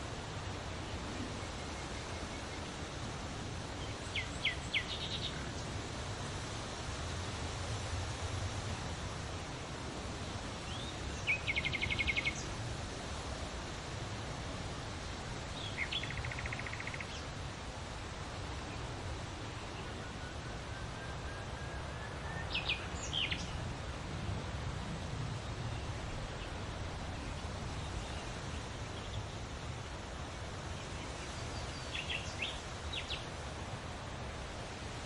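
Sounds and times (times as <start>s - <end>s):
wind in leaves: 0.0s - 35.0s.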